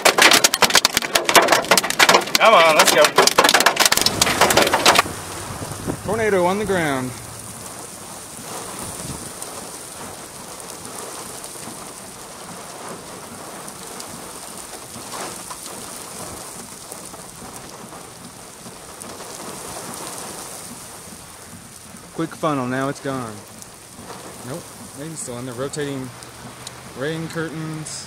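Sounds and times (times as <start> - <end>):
heavy rain on a car: 0.0 - 28.0.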